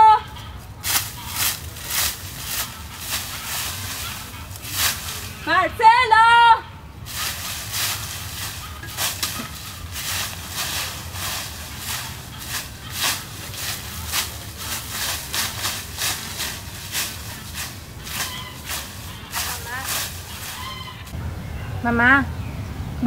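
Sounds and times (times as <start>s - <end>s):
broom sweeping dry leaves: 0.6s - 5.5s, 6.9s - 21.2s.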